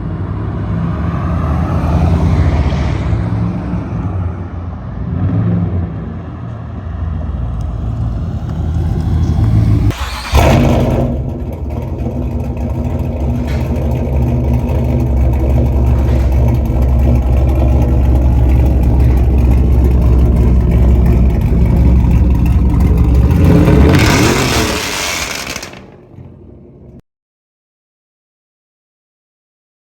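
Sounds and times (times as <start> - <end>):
car engine drone under load: 0.0 - 27.0.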